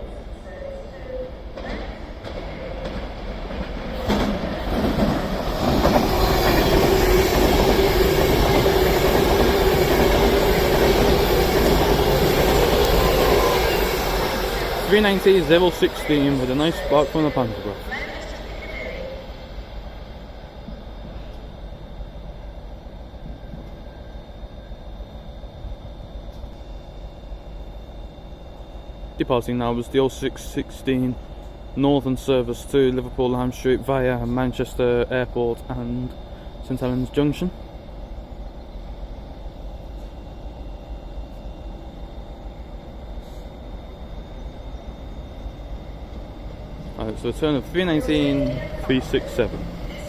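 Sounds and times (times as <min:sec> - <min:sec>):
train rumbling: 0:00.0 - 0:50.0
high-pitched whine: 0:04.0 - 0:50.0.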